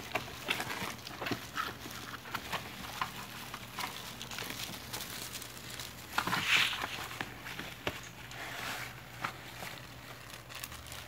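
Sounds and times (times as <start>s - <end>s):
paper and cardboard rustling: 0.0s - 11.0s.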